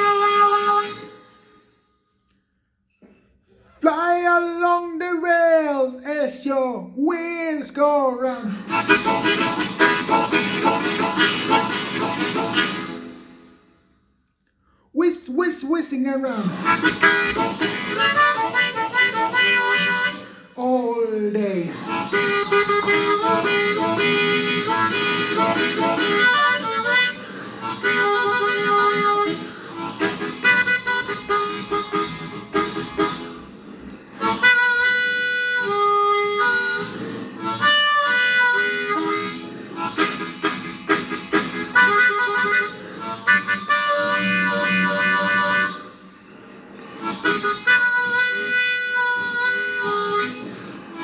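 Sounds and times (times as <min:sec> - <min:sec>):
blues harmonica playing: 0:00.0 - 0:02.3, 0:08.5 - 0:13.9, 0:16.5 - 0:20.9, 0:21.7 - 0:51.0.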